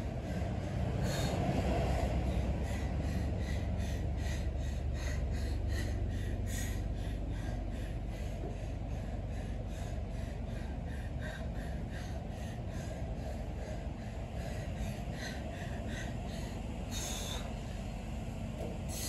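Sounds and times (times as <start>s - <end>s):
person breathing hard and fast: 0.0s - 19.0s.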